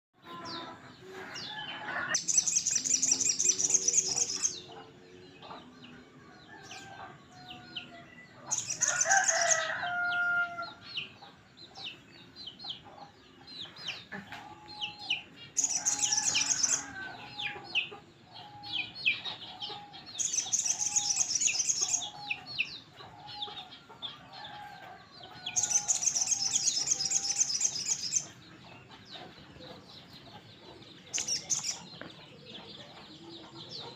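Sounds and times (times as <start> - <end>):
bird chirps: 0.3 - 9.7, 10.7 - 33.9.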